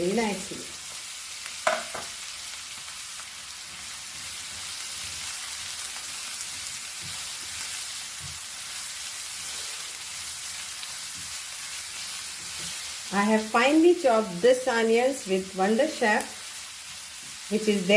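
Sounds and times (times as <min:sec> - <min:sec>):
onions sizzling in hot oil: 0:00.0 - 0:17.9.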